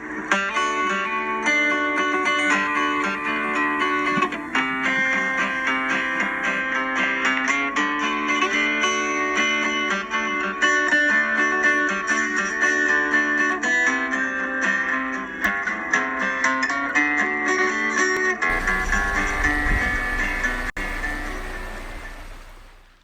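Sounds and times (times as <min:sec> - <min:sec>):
picked guitar music: 0:00.0 - 0:22.9.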